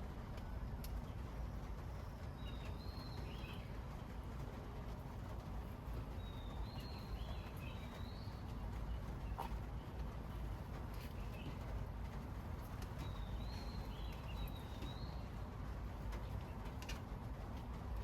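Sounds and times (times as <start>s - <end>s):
low outdoor rumble: 0.0s - 18.0s
birds chirping: 1.6s - 18.0s.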